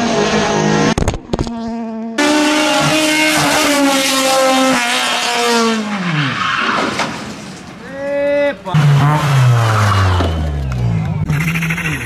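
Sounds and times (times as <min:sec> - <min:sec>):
rally car engines at high revs: 0:00.0 - 0:07.3, 0:08.7 - 0:12.0.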